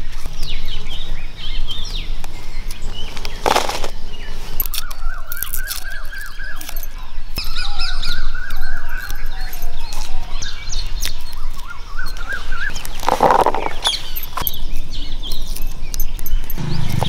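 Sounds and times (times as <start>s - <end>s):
birds whistling: 0.0s - 17.0s.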